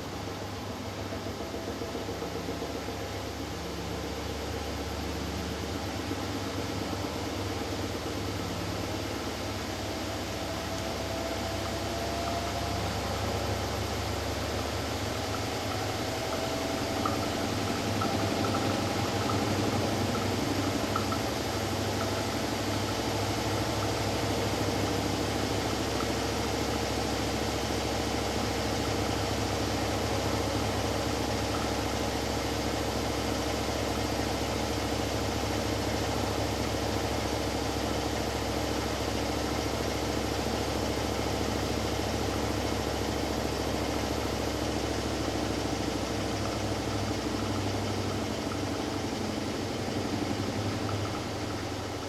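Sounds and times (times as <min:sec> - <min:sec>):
washing machine spinning: 0:00.0 - 0:52.0.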